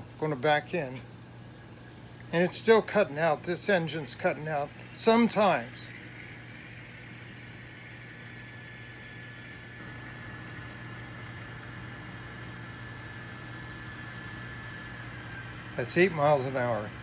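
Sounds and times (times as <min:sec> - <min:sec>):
model train motor whining: 0:03.4 - 0:17.0.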